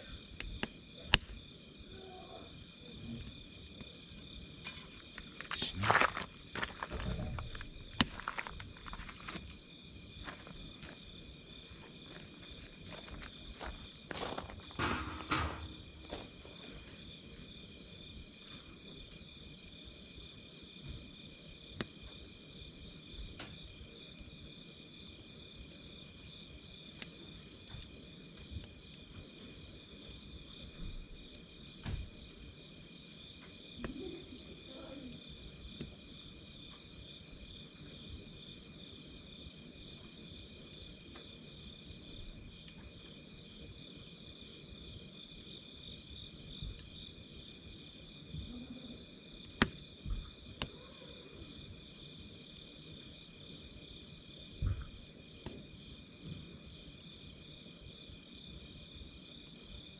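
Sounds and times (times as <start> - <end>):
crickets chirping: 0.0 - 59.9
campfire crackling and popping: 0.1 - 1.9, 2.6 - 50.8, 51.4 - 59.9.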